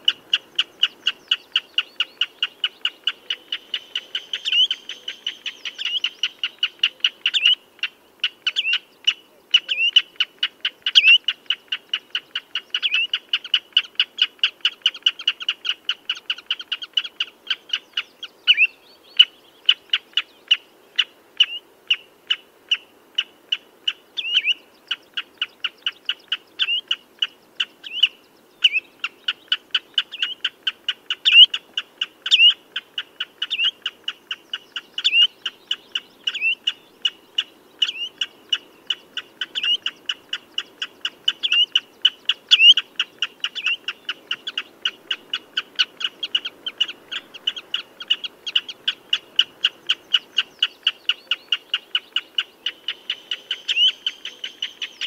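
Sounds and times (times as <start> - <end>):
redshank piping calls: 0.0 - 55.0.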